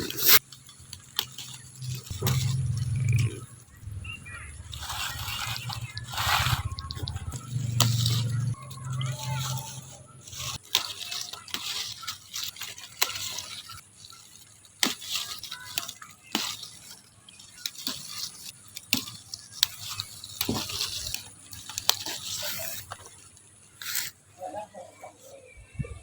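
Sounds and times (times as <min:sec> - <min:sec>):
water splashing and dripping: 0:00.0 - 0:23.5.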